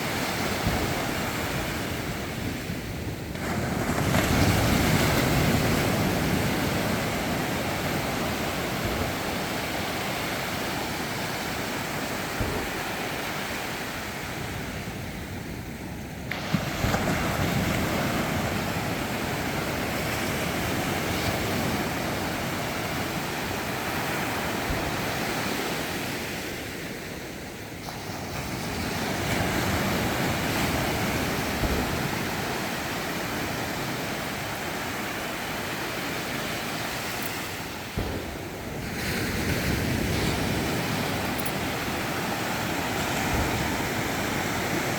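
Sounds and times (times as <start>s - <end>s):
sea waves breaking on shore: 0.0s - 44.9s.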